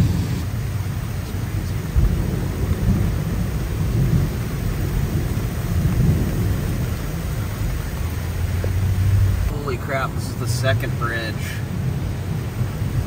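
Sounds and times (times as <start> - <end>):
creek rushing roar: 0.0 - 13.0
heavy rain falling: 0.0 - 13.0.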